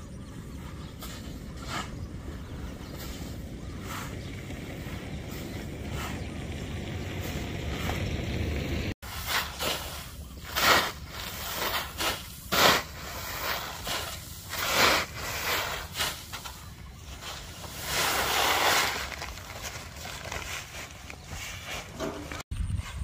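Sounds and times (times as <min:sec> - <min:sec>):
wind rumbling on microphone: 0:00.0 - 0:09.2, 0:09.8 - 0:23.0.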